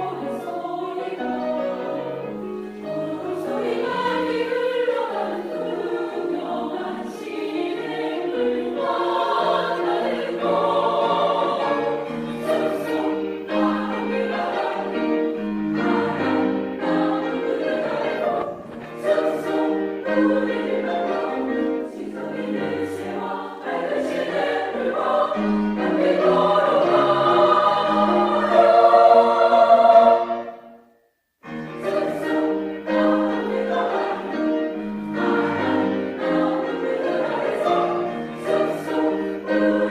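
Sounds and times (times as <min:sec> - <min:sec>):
women's choir singing: 0:00.0 - 0:30.8, 0:31.8 - 0:39.9.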